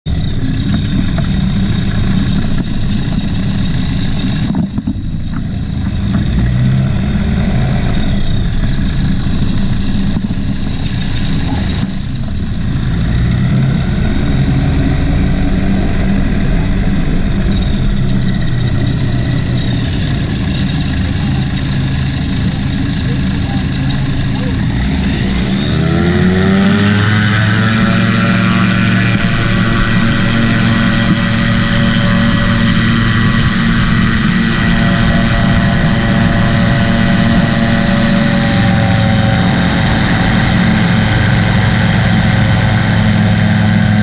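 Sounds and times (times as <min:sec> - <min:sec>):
propeller engine running: 0:00.0 - 0:44.0.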